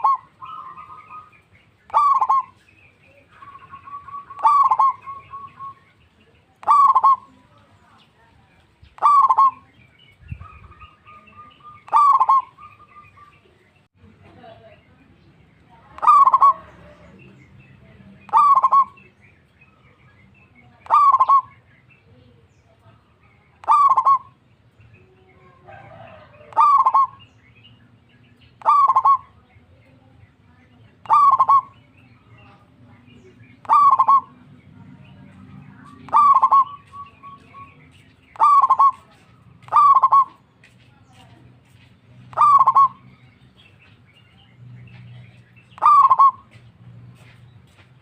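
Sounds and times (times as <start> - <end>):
dove calling: 0.0 - 14.9, 15.7 - 48.0.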